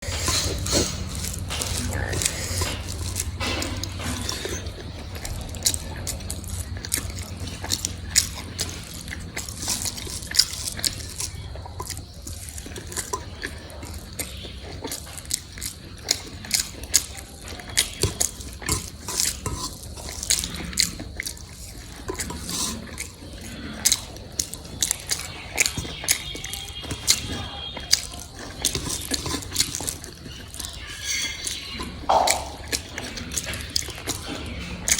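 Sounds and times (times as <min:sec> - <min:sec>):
mouth noises chewing: 0:00.0 - 0:34.9
utensils clicking against plate: 0:00.0 - 0:34.9.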